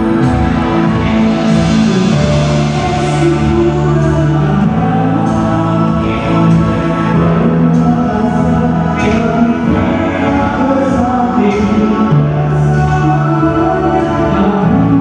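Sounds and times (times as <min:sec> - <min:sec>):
band playing sustained chords: 0:00.0 - 0:15.0
person singing: 0:00.0 - 0:15.0.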